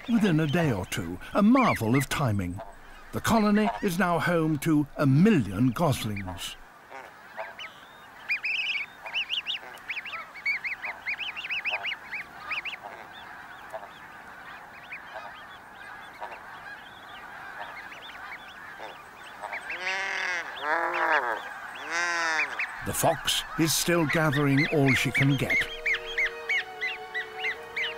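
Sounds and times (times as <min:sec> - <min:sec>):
distant geese calling: 0:00.0 - 0:27.9
loud goose honking: 0:00.0 - 0:27.9.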